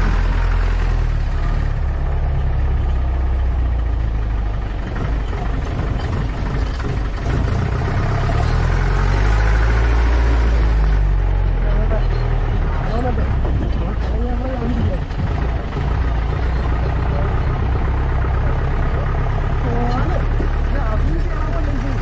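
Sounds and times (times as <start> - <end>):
jeep engine droning: 0.0 - 22.0.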